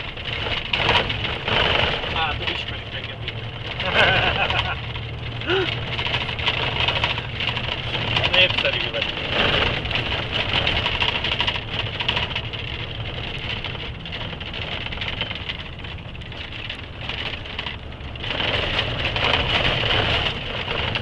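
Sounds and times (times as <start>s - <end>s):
rattling clatter: 0.0s - 21.0s
truck engine and tyre rumble: 0.0s - 21.0s.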